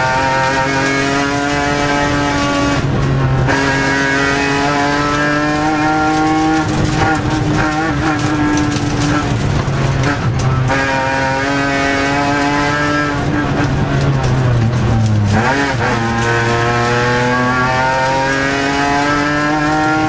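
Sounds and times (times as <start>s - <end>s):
race car engine pulling hard: 0.0s - 20.0s.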